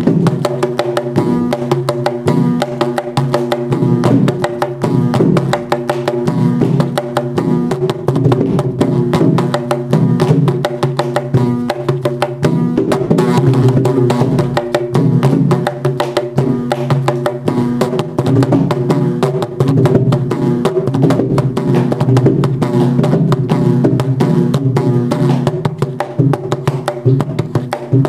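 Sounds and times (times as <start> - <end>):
mridangam drumming: 0.0 - 28.0.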